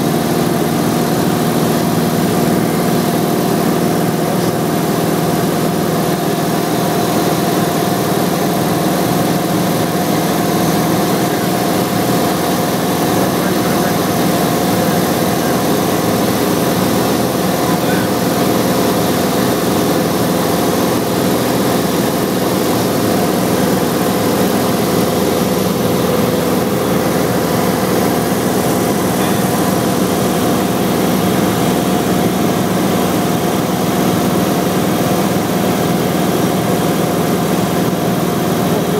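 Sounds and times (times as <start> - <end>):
propeller aircraft engine drone: 0.0 - 38.9.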